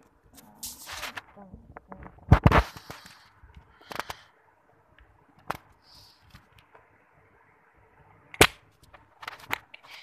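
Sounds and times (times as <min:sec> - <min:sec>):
faint room noise: 0:00.0 - 0:10.0.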